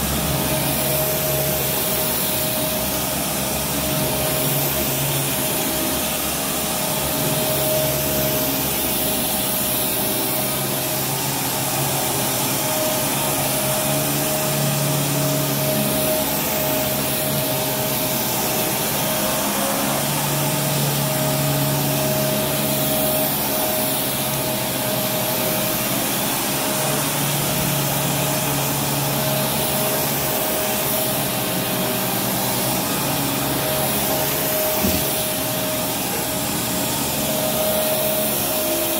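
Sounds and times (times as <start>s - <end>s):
vacuum cleaner running on carpet: 0.0s - 38.9s.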